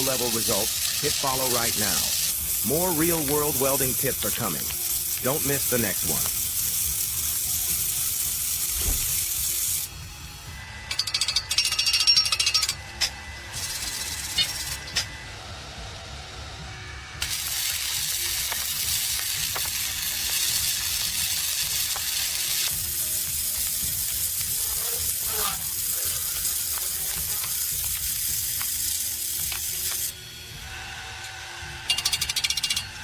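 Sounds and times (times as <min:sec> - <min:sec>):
welding arc crackling: 0:00.0 - 0:15.1, 0:17.2 - 0:30.8.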